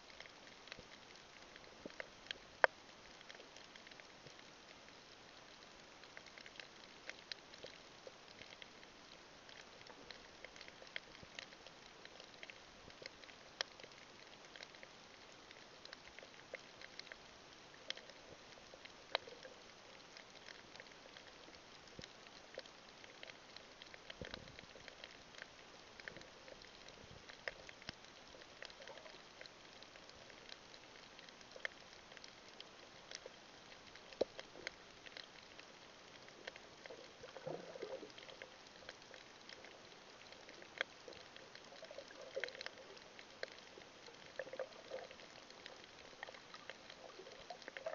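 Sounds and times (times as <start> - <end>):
low underwater hiss: 0.0 - 47.9.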